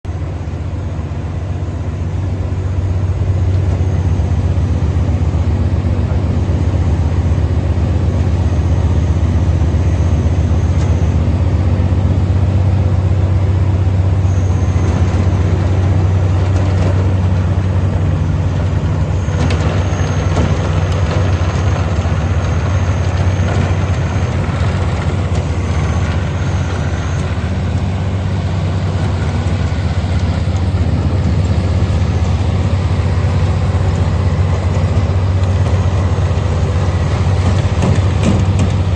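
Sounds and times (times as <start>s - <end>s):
woodchipper diesel engine running: 0.0s - 38.9s.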